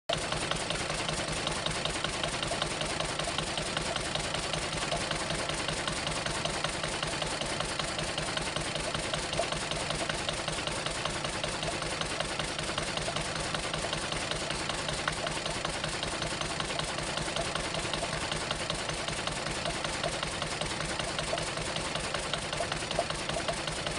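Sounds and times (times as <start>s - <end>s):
diesel engine knocking: 0.1s - 23.9s.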